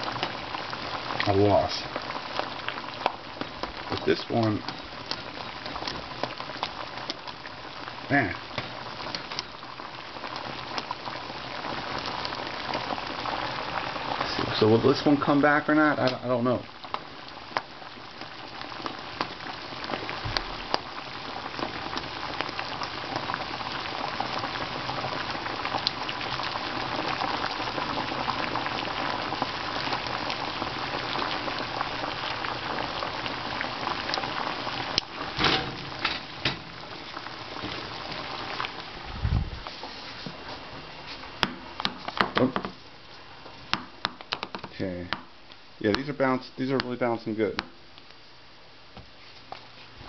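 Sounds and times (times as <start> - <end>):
water boiling and bubbling: 0.0 - 50.0.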